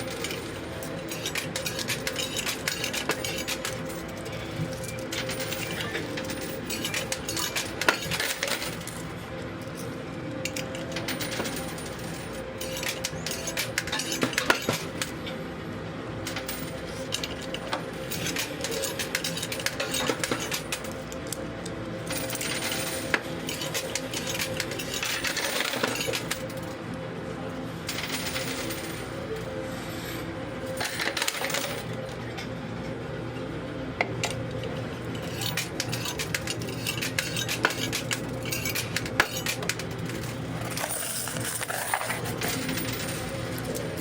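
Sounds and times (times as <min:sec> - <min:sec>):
coins clinking in coin pusher: 0:00.0 - 0:44.0.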